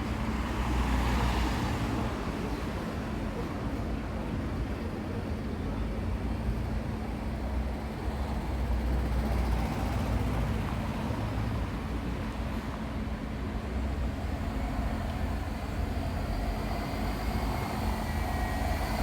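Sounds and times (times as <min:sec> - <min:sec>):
faint engine hum: 0:00.0 - 0:19.0
road traffic rumble: 0:00.0 - 0:19.0.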